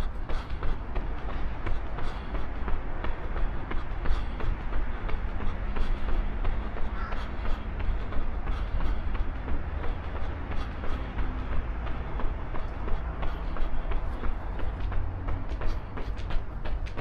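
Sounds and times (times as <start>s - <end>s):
running footsteps: 0.0s - 17.0s
steady low rumble: 0.0s - 17.0s.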